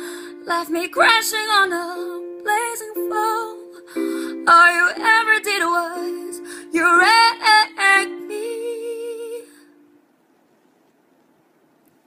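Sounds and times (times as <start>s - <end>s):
woman singing: 0.0s - 9.8s.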